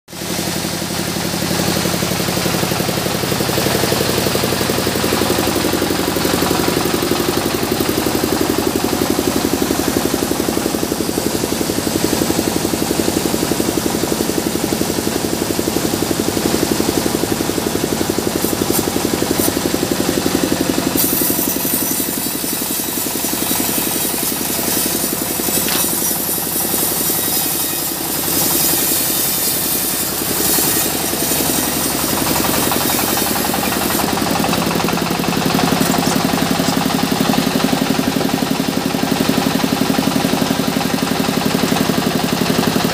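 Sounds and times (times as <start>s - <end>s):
sawmill engine chugging: 0.1s - 42.9s.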